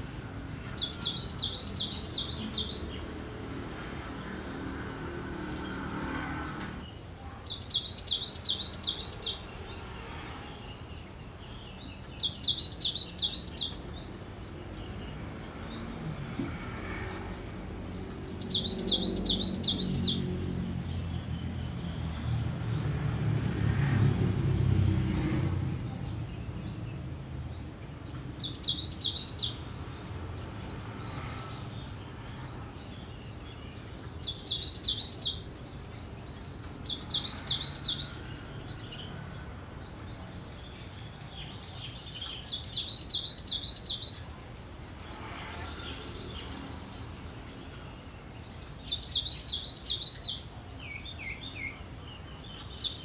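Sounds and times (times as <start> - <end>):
bird chirps: 0.0 - 3.1, 5.2 - 16.4, 17.2 - 20.3, 25.9 - 32.0, 32.8 - 44.4, 45.4 - 53.0.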